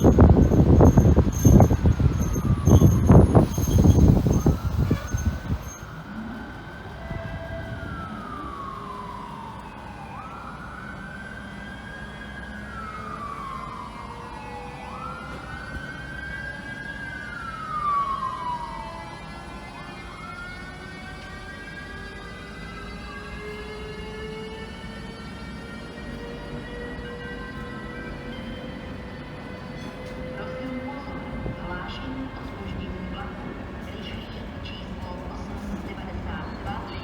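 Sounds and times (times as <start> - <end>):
siren wailing: 0.0 - 31.8.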